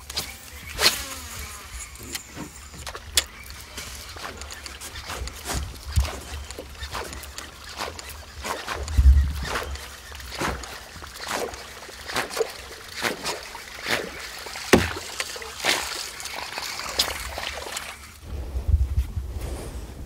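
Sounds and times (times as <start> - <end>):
lure splashing on water: 0.0 - 18.2.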